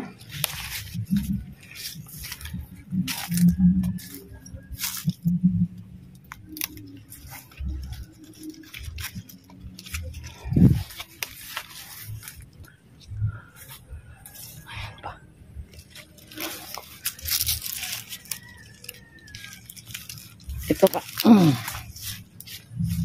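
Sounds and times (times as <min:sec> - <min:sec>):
footsteps through plants: 0:00.0 - 0:05.3, 0:06.2 - 0:15.0, 0:15.6 - 0:23.0
leaves and stems rustling: 0:00.0 - 0:23.0.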